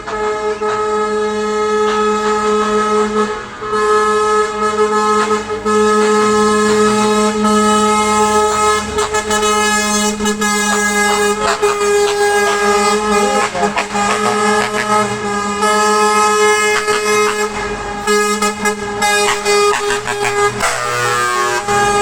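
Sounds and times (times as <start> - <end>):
truck air horns blasting: 0.0 - 22.0.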